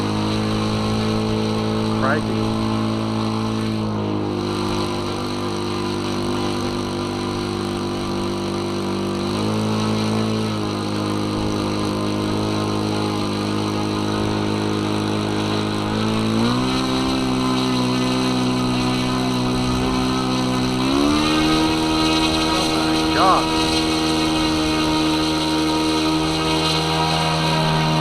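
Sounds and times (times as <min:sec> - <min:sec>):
model aircraft glow engine revving: 0:00.0 - 0:28.0.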